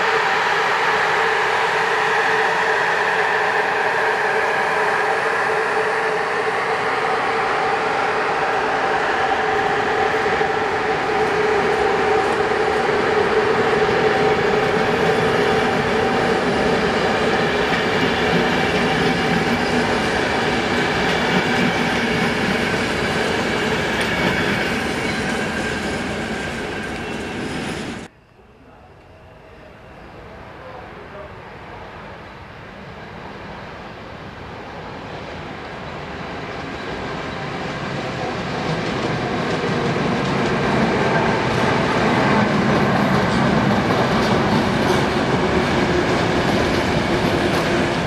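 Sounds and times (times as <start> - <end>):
train wheels rumbling on rails: 0.0 - 28.1, 34.2 - 48.0.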